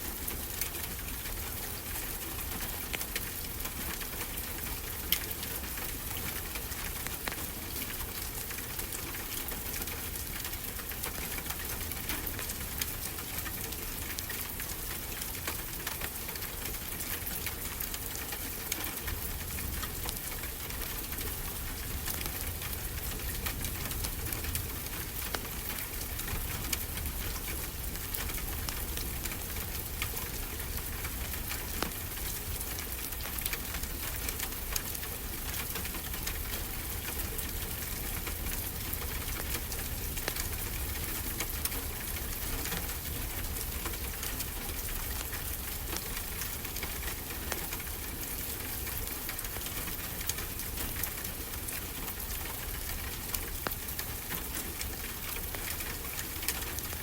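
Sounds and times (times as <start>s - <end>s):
fire hiss and low rumble: 0.0s - 57.0s.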